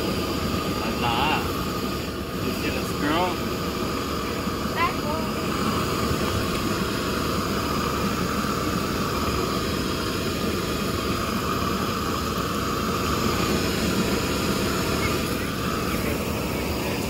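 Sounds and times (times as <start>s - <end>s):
propane torch hissing: 0.0s - 17.0s.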